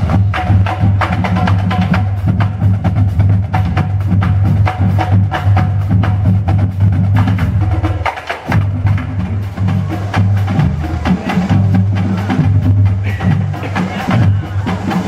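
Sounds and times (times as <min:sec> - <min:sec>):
booming bass drums: 0:00.0 - 0:15.0
snare drums: 0:00.0 - 0:15.0
tenor drums: 0:00.0 - 0:15.0.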